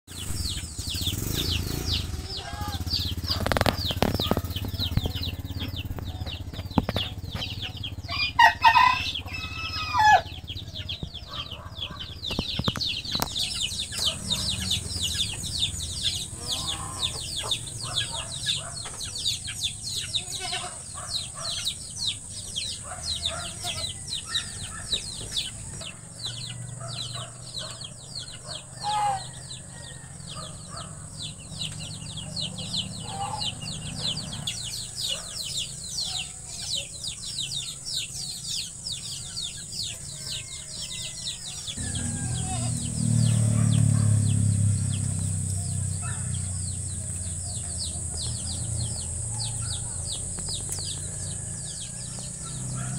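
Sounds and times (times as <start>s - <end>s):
ducklings peeping: 0.1s - 52.9s.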